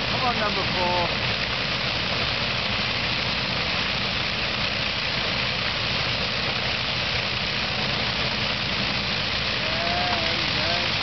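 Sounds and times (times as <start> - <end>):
piston aircraft engines rumbling: 0.0 - 11.0
propellers hissing: 0.0 - 11.0.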